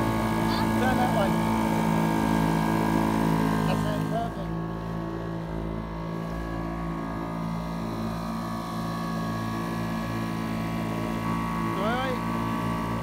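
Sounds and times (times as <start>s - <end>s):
motorboat engine running: 0.0s - 13.0s
sea wash: 0.0s - 13.0s.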